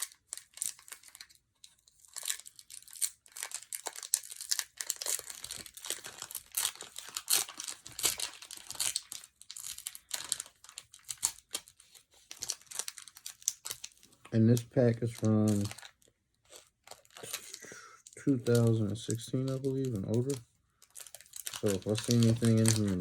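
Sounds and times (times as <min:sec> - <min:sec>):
foil wrapper crinkling: 0:00.0 - 0:23.0.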